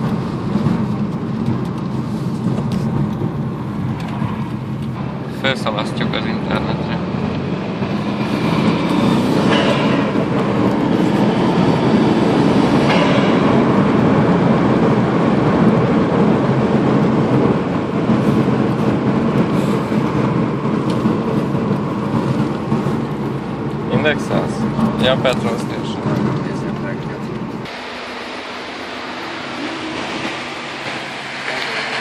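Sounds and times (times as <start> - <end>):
car engine drone: 0.0 - 32.0
road noise: 0.0 - 32.0.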